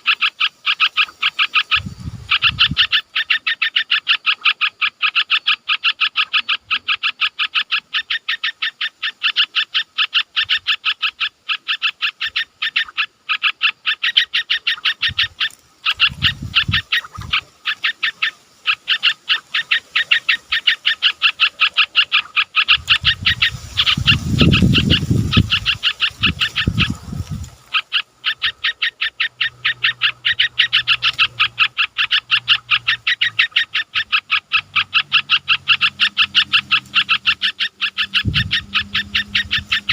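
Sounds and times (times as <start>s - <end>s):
rhythmic animal call: 0.0s - 39.9s.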